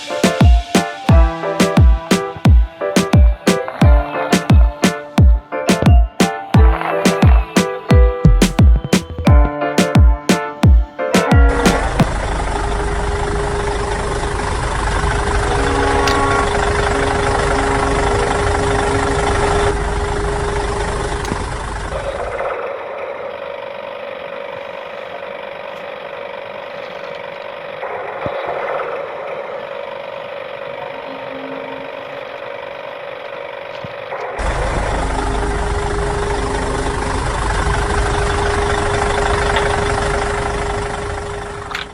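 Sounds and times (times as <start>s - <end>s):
toy tractor engine sound: 2.1s - 41.9s.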